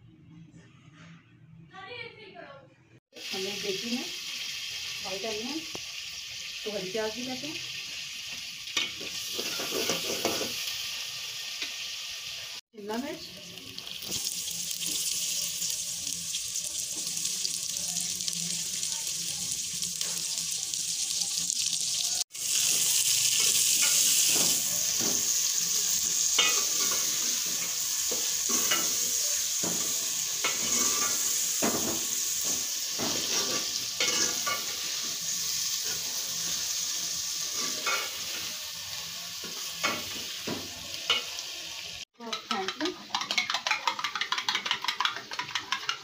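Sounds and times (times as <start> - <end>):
vegetables sizzling in hot oil: 3.1 - 46.0.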